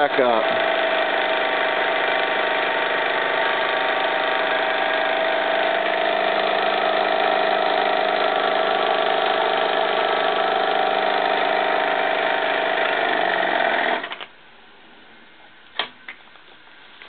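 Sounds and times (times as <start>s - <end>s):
steam engine running: 0.0s - 14.1s.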